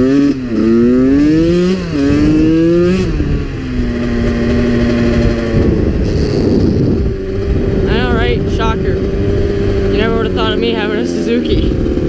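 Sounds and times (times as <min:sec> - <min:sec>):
two-stroke engine accelerating: 0:00.0 - 0:12.0.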